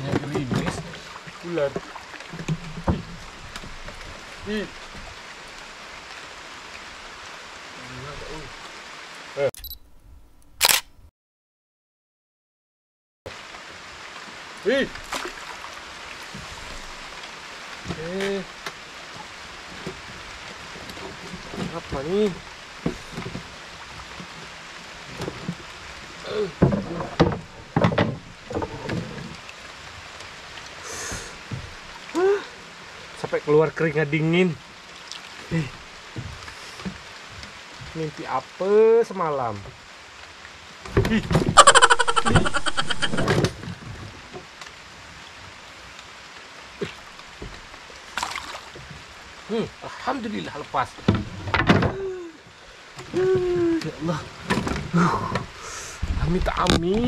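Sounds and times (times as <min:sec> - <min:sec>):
light drizzle hissing: 0:00.0 - 0:10.8, 0:13.3 - 0:57.0.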